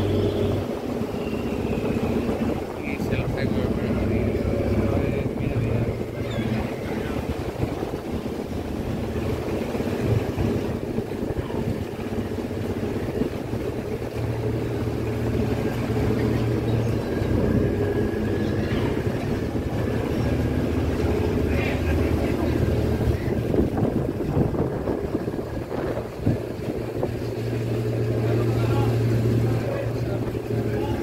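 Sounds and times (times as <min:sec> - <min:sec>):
boat diesel engine humming: 0:00.0 - 0:31.0
propeller churning water: 0:00.0 - 0:31.0.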